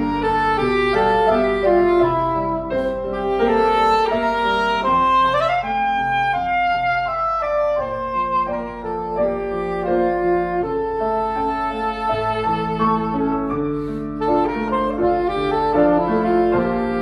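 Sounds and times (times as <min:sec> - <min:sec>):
grand piano accompaniment: 0:00.0 - 0:17.0
soprano saxophone melody: 0:00.0 - 0:17.0.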